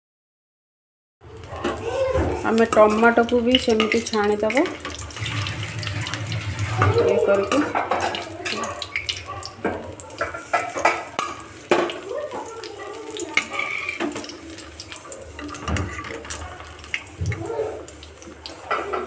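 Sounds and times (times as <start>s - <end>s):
tomato slices sizzling in oil: 1.2s - 19.0s
spatula scraping and knocking pan: 1.5s - 19.0s.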